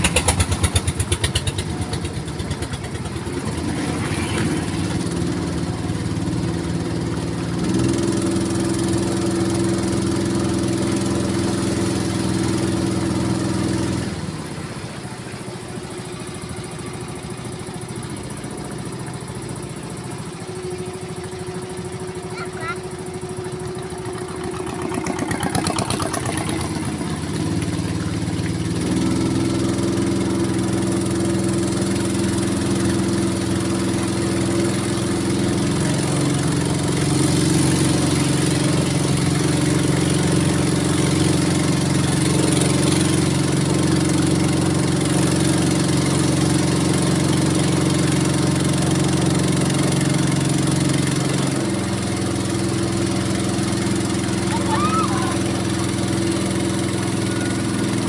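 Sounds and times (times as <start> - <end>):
small boat engine running: 0.0 - 58.0.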